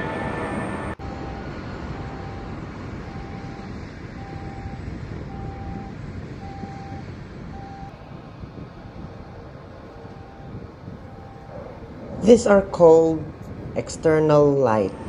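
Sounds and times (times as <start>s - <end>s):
jet aircraft noise: 0.0s - 15.0s.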